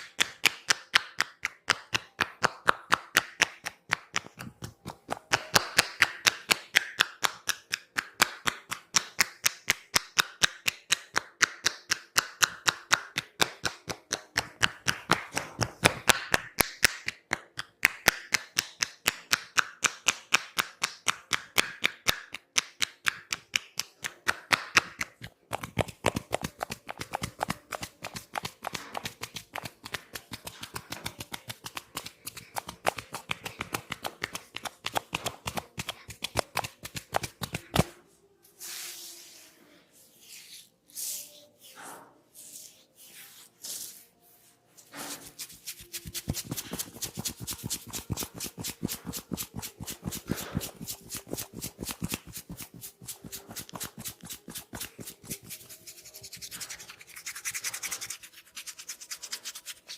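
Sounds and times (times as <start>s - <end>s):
percussive massage strikes: 0.1s - 37.9s, 45.0s - 55.6s.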